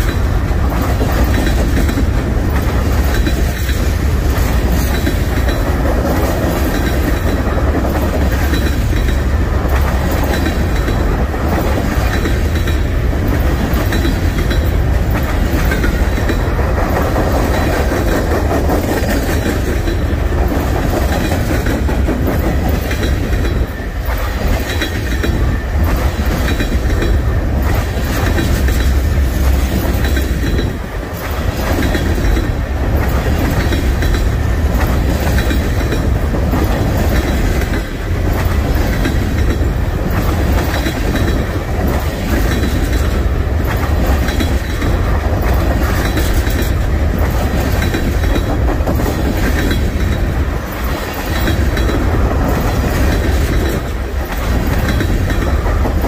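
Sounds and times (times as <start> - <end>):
clickety-clack of rail joints: 0.0 - 56.0
steel wheels rumbling on rail: 0.0 - 56.0.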